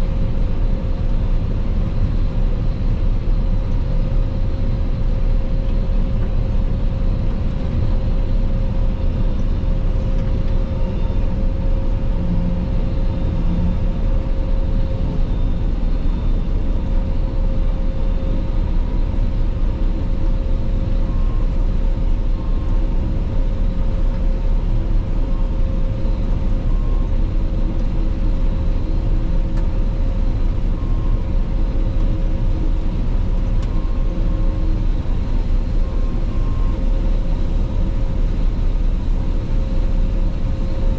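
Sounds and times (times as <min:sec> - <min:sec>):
combine harvester drone: 0:00.0 - 0:40.9
thin steady whine: 0:01.8 - 0:40.9.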